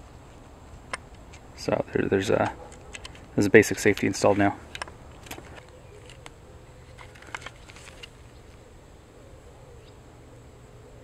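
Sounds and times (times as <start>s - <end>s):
faint wavering buzz: 0.0s - 11.0s.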